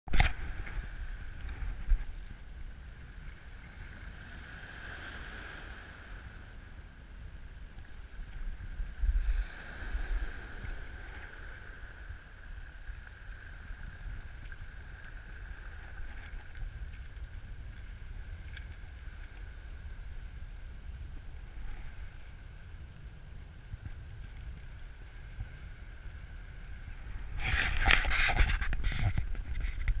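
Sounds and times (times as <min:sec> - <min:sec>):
crackling noise: 0:00.0 - 0:04.0, 0:07.6 - 0:30.0
wind rumbling on microphone: 0:00.1 - 0:30.0.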